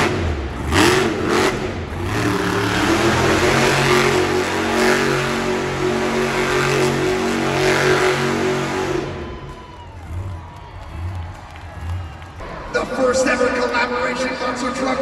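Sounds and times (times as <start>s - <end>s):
truck engine revving hard: 0.0s - 12.4s.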